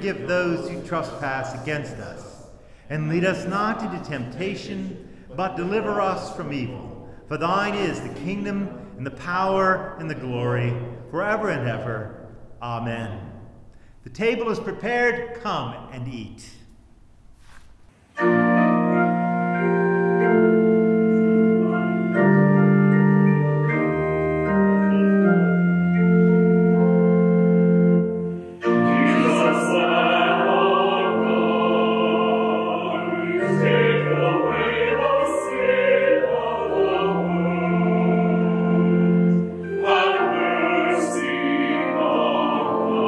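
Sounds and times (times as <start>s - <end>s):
organ playing slow chords: 0.0s - 15.3s, 18.1s - 43.0s.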